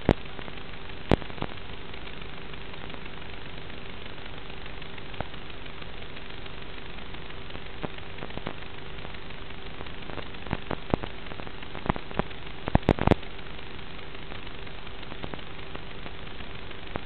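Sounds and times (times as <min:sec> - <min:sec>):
faint steady hum: 0:00.0 - 0:17.0
sharp crackles: 0:00.0 - 0:17.0
static hiss: 0:00.0 - 0:17.0.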